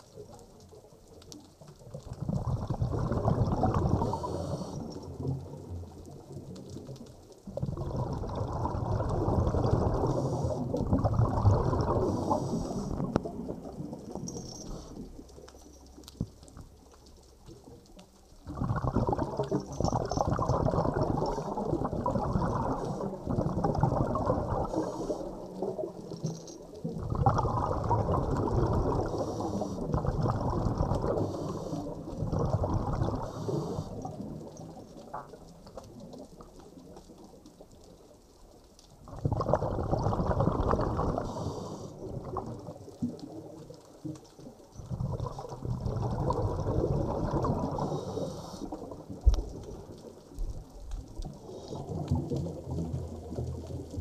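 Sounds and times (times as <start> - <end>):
underwater bubbling and rushing: 0.0 - 54.0.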